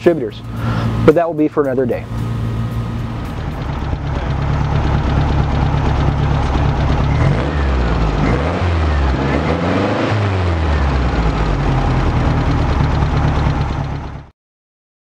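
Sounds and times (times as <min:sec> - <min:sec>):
car engine idling and revving: 0:00.0 - 0:14.3.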